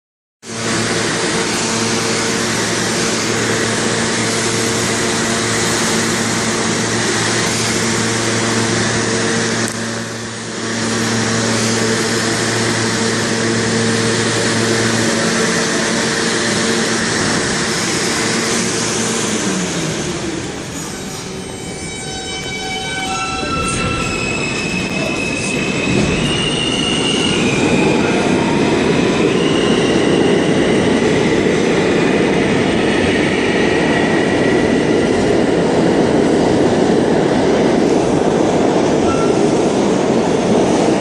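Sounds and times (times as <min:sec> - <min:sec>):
subway train rushing: 0:00.4 - 0:41.0.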